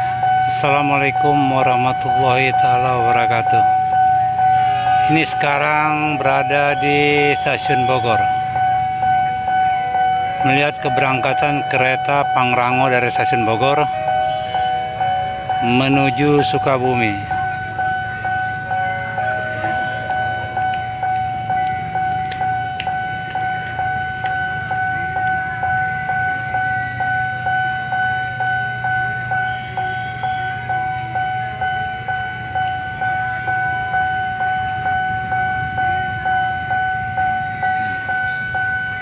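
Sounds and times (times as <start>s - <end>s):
low engine-like rumble: 0.0s - 38.9s
level crossing warning bell ringing: 0.0s - 39.0s.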